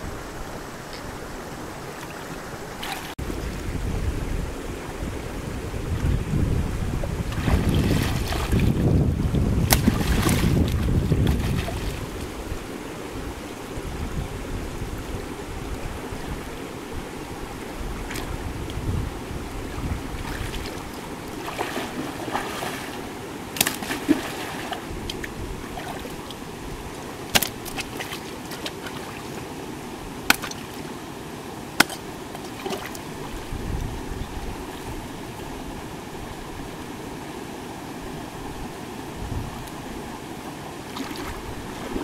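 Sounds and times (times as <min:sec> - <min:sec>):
stream running over rocks: 0:00.0 - 0:42.0.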